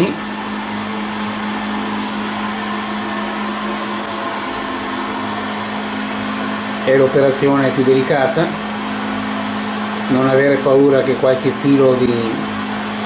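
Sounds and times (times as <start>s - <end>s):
kitchen equipment humming: 0.0s - 13.0s.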